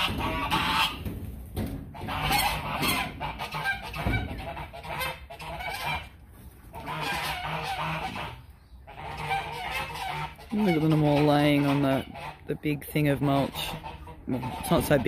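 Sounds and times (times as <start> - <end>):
waterfowl calling: 0.0 - 1.1, 1.9 - 15.0.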